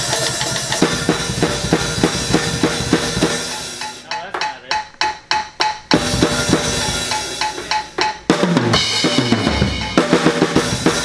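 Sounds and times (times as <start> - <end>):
drum kit with crashing cymbals: 0.0 - 11.0.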